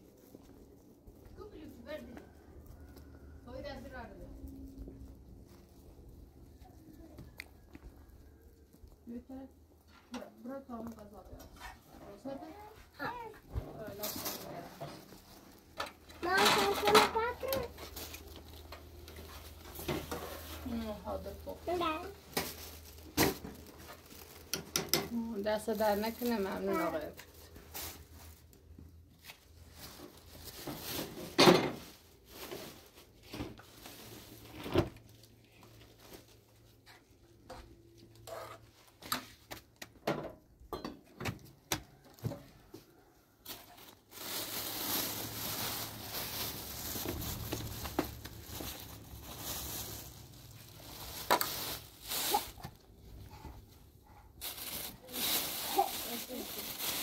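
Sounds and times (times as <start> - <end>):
crinkling: 0.0 - 37.3, 41.9 - 57.0.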